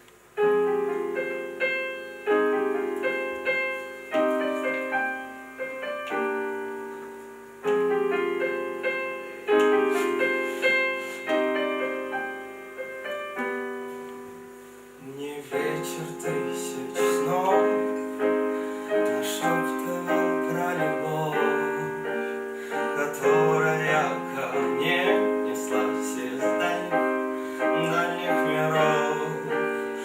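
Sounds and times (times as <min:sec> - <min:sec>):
piano chords and melody: 0:00.0 - 0:30.0.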